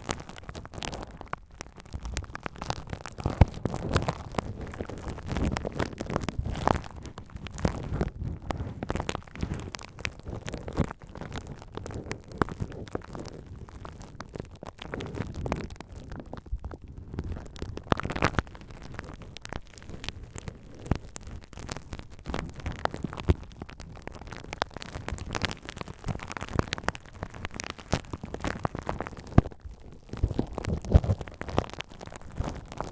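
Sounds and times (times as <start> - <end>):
bubble wrap crackling and popping: 0.0 - 32.9
low rustling rumble: 0.0 - 32.9.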